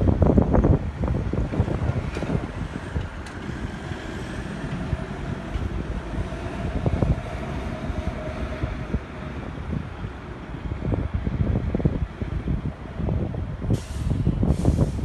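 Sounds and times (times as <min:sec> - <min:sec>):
road vehicles idling: 0:00.0 - 0:15.0
wind rumbling on microphone: 0:00.0 - 0:15.0.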